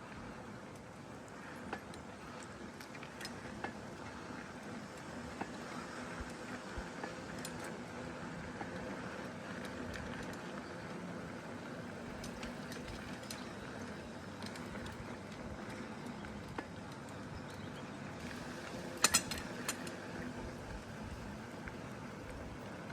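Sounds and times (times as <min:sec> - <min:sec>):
bicycle tyres rolling on pavement: 0:00.0 - 0:22.9
bike clicks and rattles: 0:00.1 - 0:22.9.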